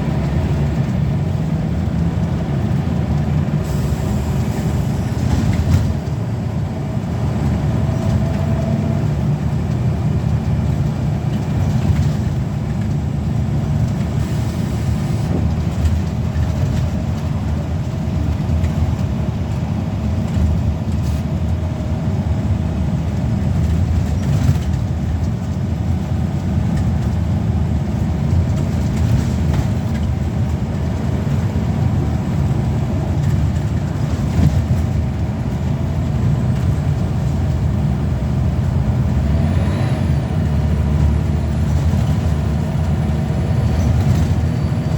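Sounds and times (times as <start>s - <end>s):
bus diesel engine drone: 0.0s - 44.9s.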